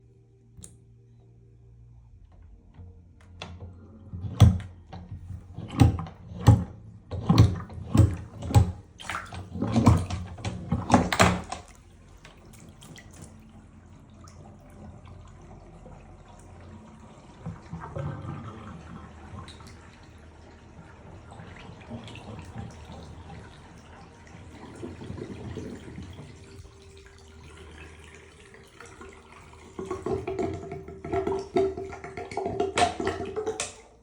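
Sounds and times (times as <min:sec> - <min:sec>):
water splashing and sloshing: 0:03.2 - 0:34.0.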